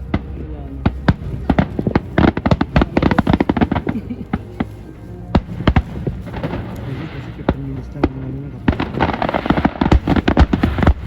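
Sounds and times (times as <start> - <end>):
fireworks bangs and cracks: 0.0 - 11.0
music playing: 0.0 - 11.0.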